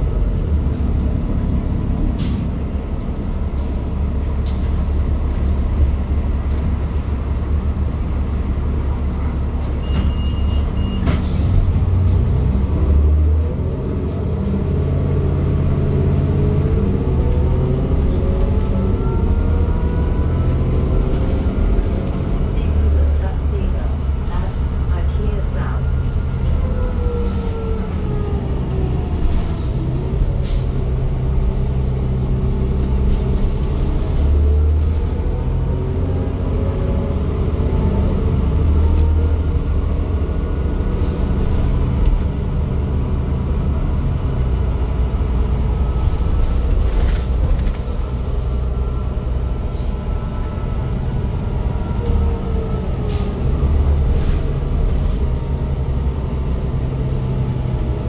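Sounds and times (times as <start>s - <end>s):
bus engine drone: 0.0s - 58.0s
road rumble: 0.0s - 58.0s.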